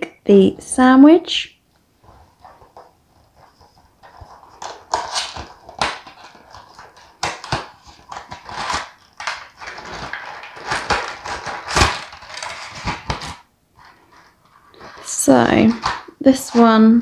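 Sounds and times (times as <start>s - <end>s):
plastic packaging crinkling: 2.0s - 17.0s.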